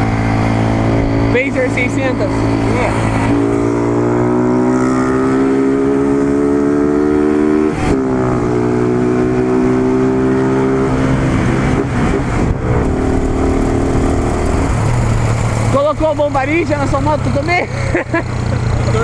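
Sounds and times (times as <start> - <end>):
motorcycle engine running: 0.0 - 9.6, 10.8 - 19.0.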